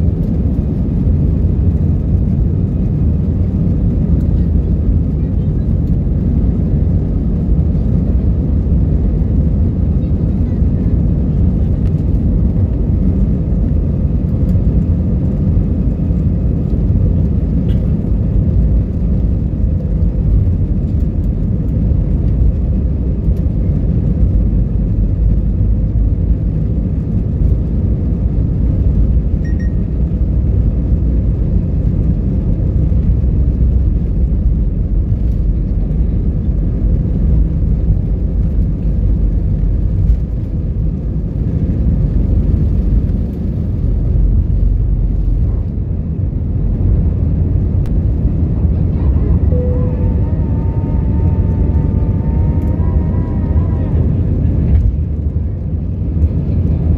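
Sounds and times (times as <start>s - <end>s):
jet engine noise: 0.0s - 56.9s.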